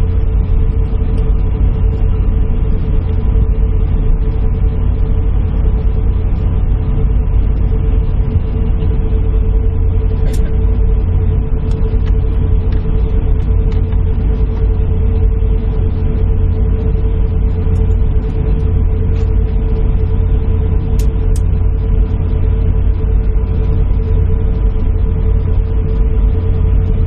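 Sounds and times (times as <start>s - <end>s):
airliner cabin rumble: 0.0s - 27.0s
constant engine whine: 0.0s - 27.0s.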